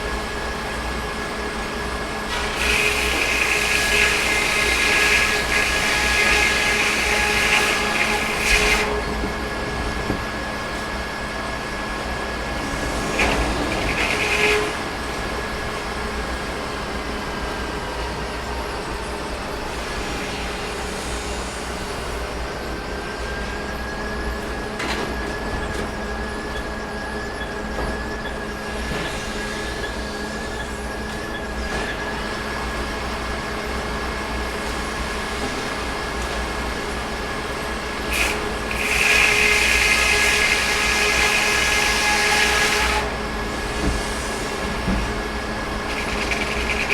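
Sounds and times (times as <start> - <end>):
sawmill engine drone and whine: 0.0 - 46.9.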